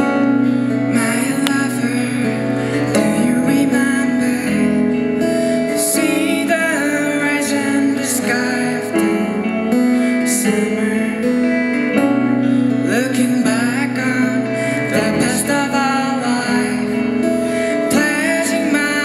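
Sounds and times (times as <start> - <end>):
acoustic guitars playing: 0.0 - 19.0
man singing: 0.0 - 19.0.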